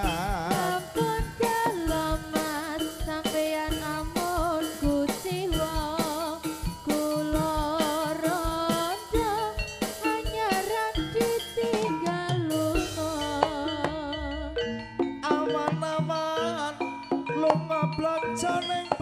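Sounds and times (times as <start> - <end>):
gamelan ensemble music: 0.0 - 19.0.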